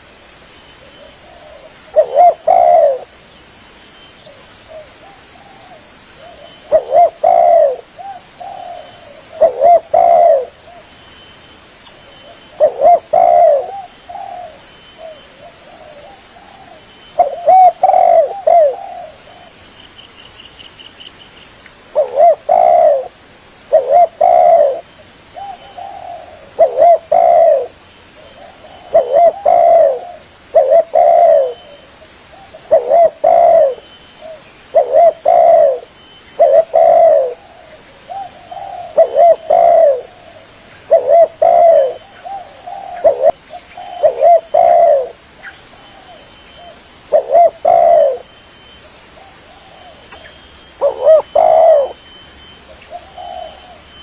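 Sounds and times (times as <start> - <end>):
dove cooing: 0.8 - 3.2, 4.3 - 10.9, 12.2 - 19.6, 21.9 - 54.0.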